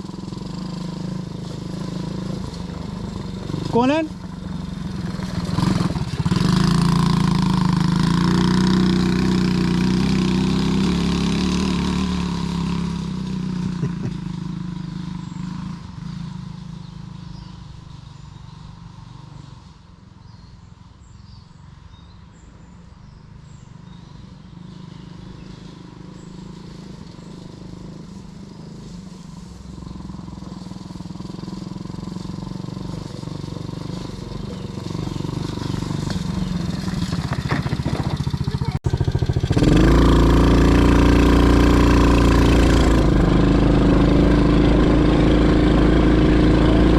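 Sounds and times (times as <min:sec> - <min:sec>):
quad bike engine running: 0:00.0 - 0:19.4, 0:23.3 - 0:46.9.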